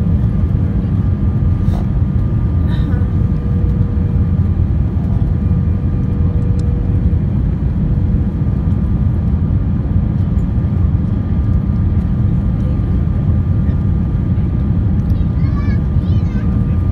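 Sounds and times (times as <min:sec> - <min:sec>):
jet engine rumble in cabin: 0:00.0 - 0:16.9.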